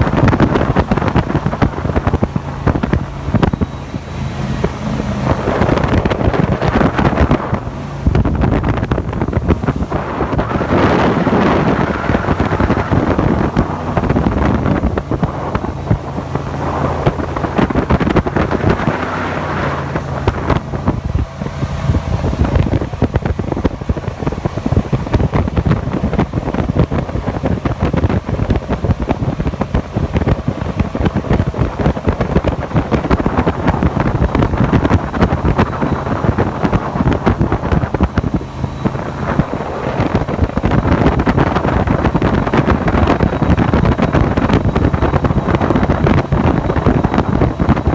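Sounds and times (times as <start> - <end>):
boat engine running: 0.0 - 47.9
wind buffeting on microphone: 0.0 - 47.9.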